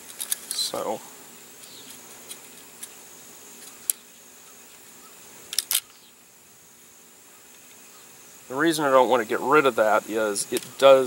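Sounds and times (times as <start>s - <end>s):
high insect buzz: 0.0s - 11.0s.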